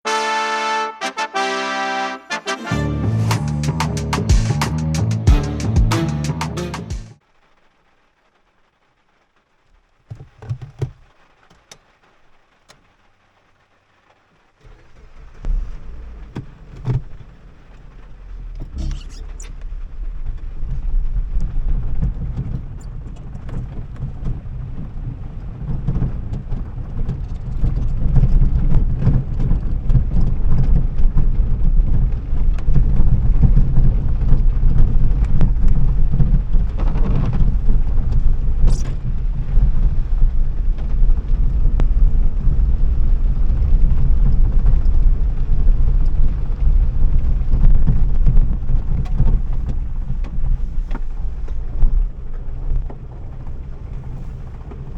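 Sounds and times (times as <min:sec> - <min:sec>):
car engine and road noise: 0:10.1 - 0:54.9.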